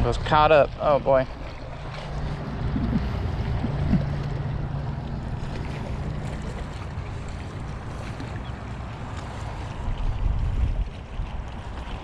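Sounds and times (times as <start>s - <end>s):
water moving at shore: 0.0s - 12.0s
wind rumble on microphone: 0.0s - 12.0s.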